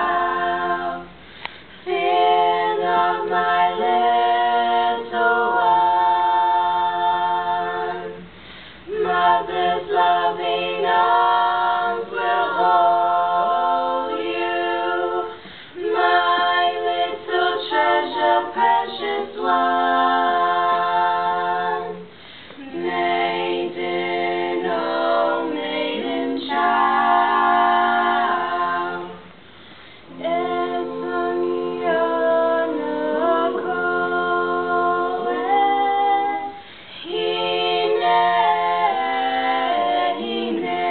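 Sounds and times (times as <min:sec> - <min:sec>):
women singing a cappella harmony: 0:00.0 - 0:40.9.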